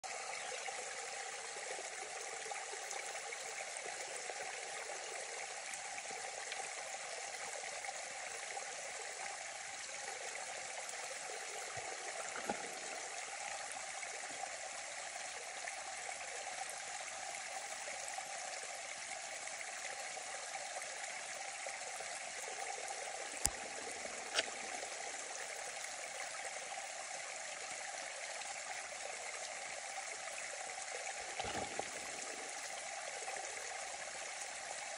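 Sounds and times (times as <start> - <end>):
stream splashing over small drops: 0.0 - 17.9, 18.5 - 34.9.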